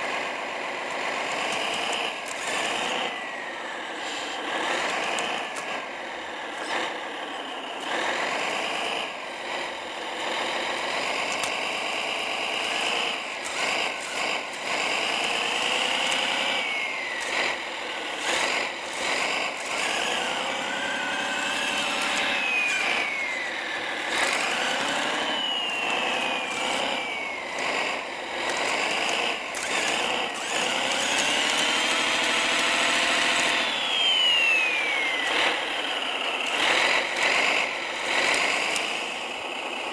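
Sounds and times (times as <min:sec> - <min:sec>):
toy diesel engine revving: 0:00.0 - 0:39.9.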